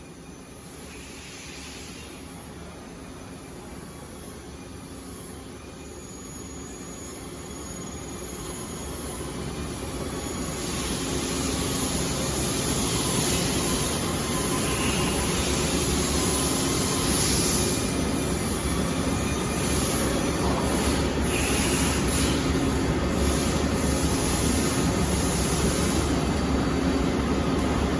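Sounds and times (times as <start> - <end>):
machine rumble and hiss: 0.0 - 27.9.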